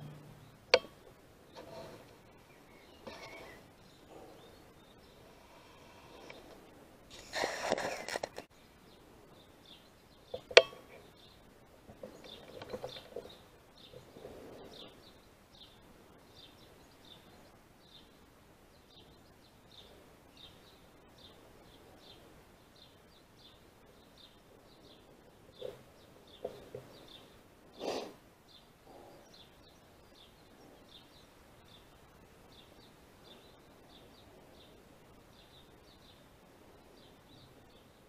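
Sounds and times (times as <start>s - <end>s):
small bird chirping: 0.0s - 6.5s, 7.1s - 38.0s.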